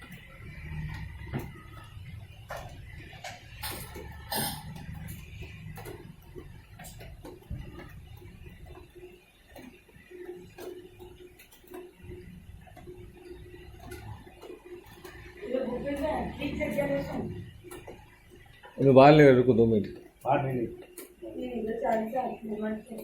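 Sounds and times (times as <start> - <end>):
motor hum: 0.0 - 23.0
washing machine clicking and knocking: 0.0 - 23.0.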